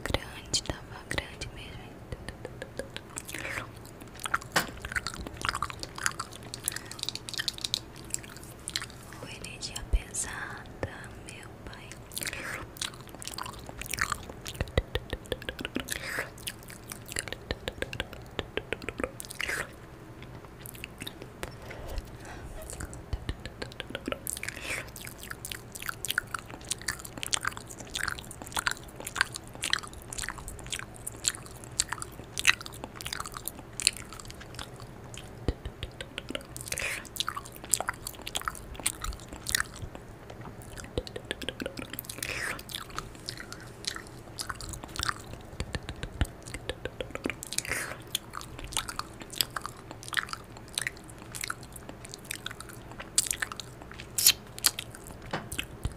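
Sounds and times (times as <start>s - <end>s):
tongue clicks: 2.1s - 9.0s, 12.2s - 21.6s, 22.7s - 55.9s
wet lip smacks: 2.1s - 9.1s, 12.2s - 55.9s.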